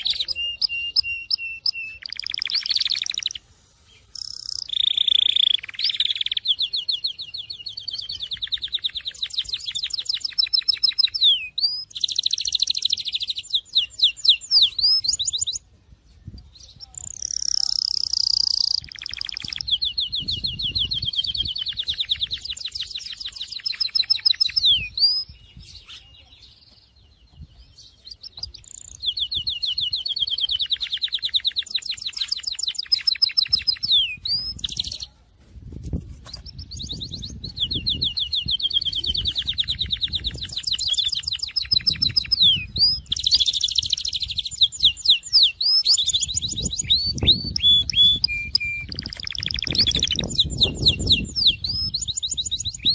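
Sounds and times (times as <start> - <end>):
canary singing trills: 0.0 - 15.7, 16.3 - 35.1, 36.2 - 52.9.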